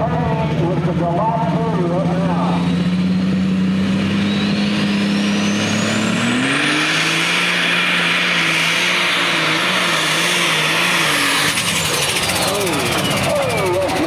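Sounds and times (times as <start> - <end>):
tractor engine revving: 0.0 - 14.0
turbo whine: 0.6 - 14.0.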